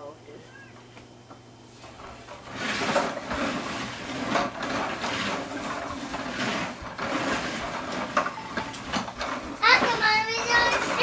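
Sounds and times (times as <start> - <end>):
plastic wheels scraping on vinyl floor: 1.7 - 11.0.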